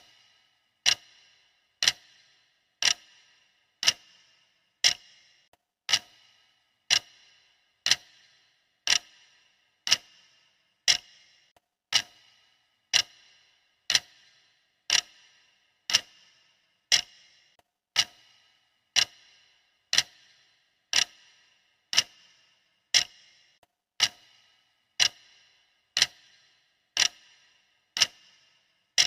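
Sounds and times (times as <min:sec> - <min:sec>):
clock ticking: 0:00.0 - 0:29.0.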